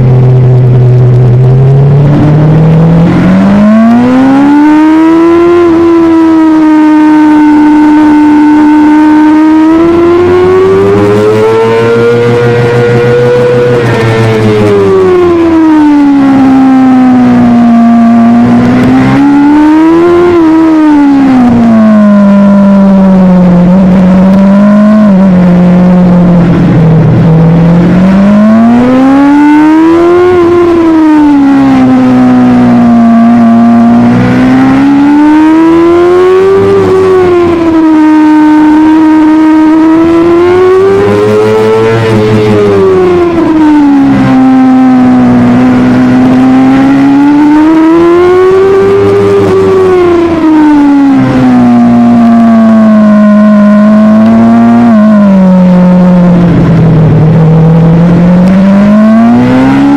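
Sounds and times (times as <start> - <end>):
motorbike engine revving high: 0.0 - 59.9.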